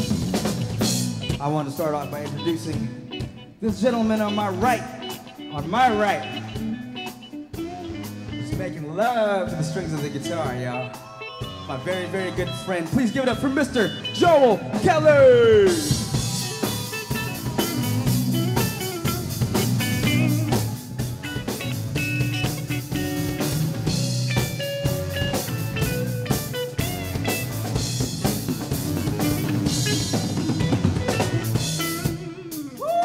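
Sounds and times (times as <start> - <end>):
bass guitar: 0.0 - 33.0
drum kit: 0.0 - 33.0
electric guitar lead with bent notes: 0.0 - 33.0.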